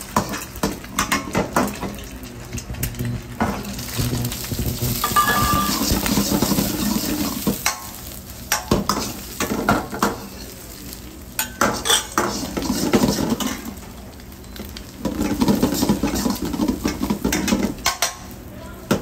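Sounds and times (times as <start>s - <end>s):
food sizzling: 0.0s - 19.0s.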